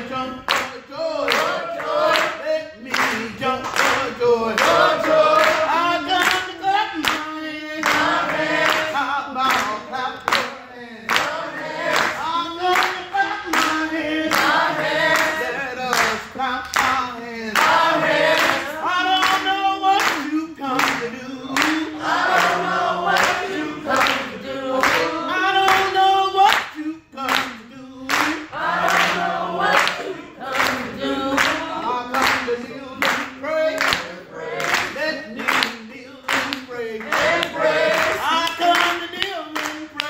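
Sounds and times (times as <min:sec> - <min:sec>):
congregation singing: 0:00.0 - 0:40.0
rhythmic hand-clapping: 0:00.0 - 0:40.0.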